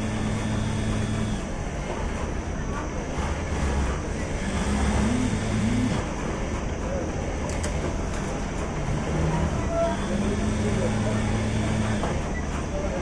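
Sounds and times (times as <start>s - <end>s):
industrial sewing machines running: 0.0s - 13.0s.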